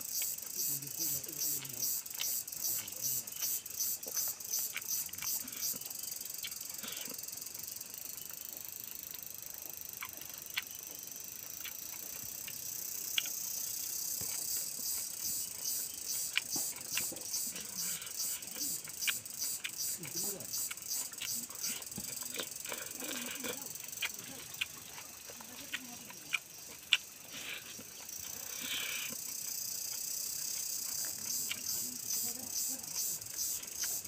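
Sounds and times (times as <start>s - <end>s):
man chewing and lip-smacking: 0.0s - 34.0s.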